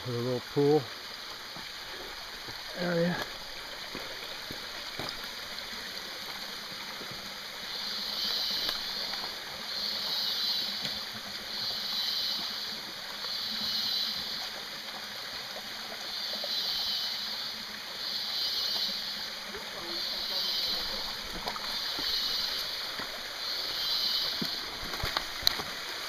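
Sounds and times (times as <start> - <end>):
water trickling over rock: 0.0 - 26.0.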